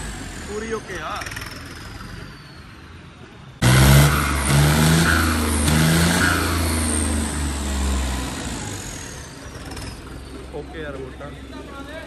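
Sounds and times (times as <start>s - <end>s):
diesel tractor engine revving: 0.0s - 12.0s.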